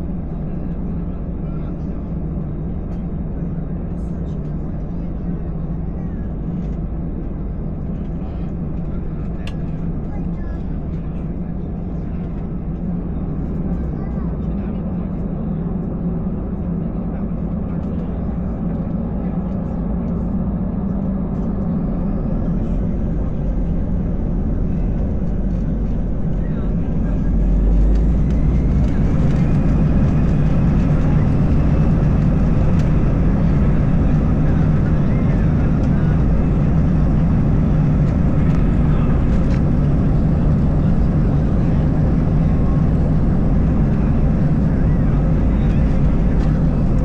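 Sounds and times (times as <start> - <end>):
jet engine drone in cabin: 0.0 - 47.0.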